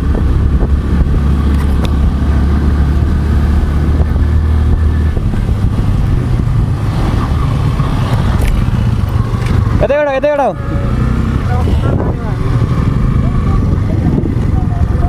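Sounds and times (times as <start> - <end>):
motorcycle engine running: 0.0 - 15.0
steady rushing noise: 0.0 - 15.0.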